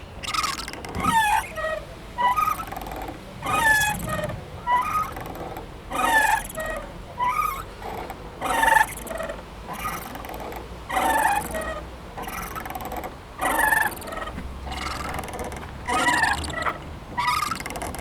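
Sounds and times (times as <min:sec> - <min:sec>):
playground swing squeaking: 0:00.0 - 0:18.0.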